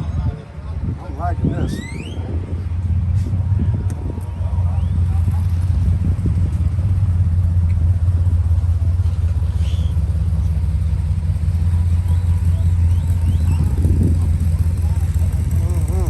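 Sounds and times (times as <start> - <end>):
car engine idling: 2.4 - 16.0.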